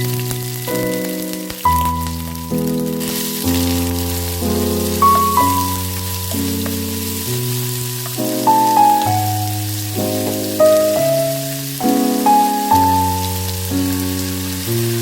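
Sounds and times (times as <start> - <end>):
food sizzling in a pan: 0.0 - 15.0
slow chords and melody music: 0.0 - 15.0.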